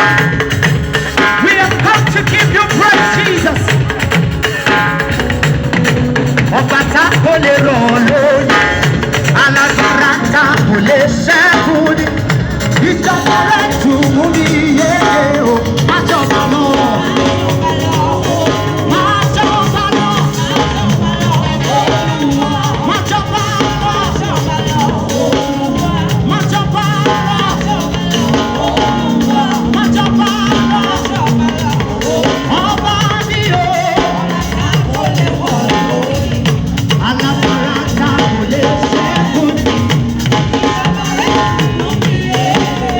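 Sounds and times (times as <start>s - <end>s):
upbeat live band music: 0.0s - 42.9s.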